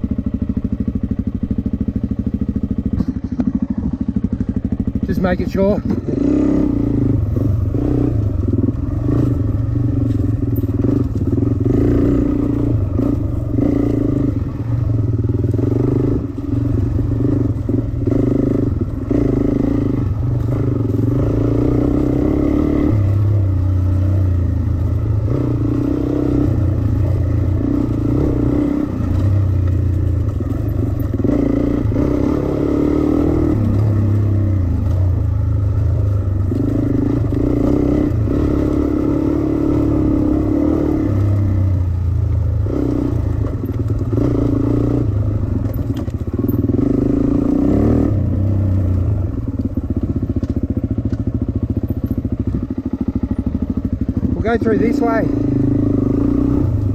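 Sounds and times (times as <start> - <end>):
dirt bike engine revving: 2.7 - 56.9.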